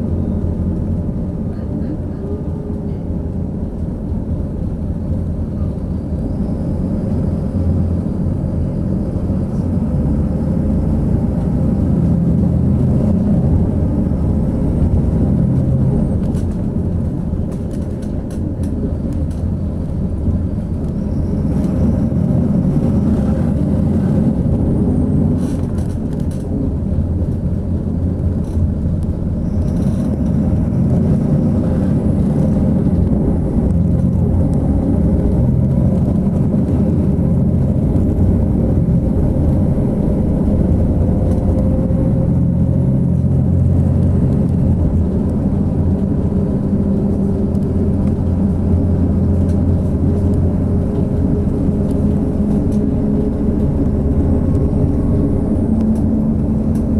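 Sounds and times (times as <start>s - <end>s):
coach engine and road noise: 0.0s - 56.9s.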